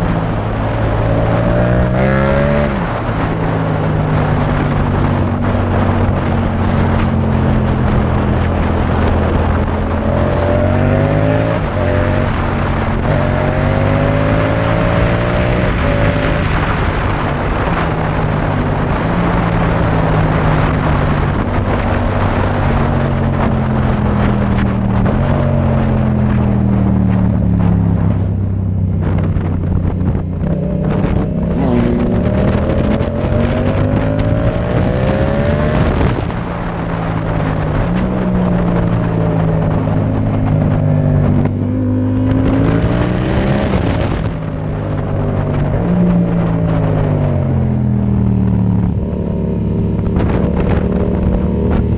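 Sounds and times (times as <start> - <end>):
motorcycle engine revving: 0.0 - 51.9
wind noise on microphone: 0.0 - 51.9.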